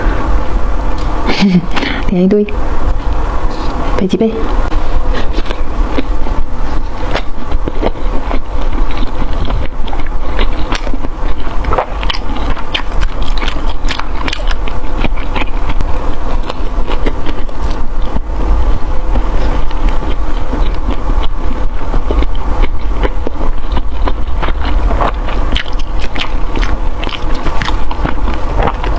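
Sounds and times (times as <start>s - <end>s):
steady low rumble: 0.0s - 28.9s
food crunching while chewed: 4.8s - 28.9s.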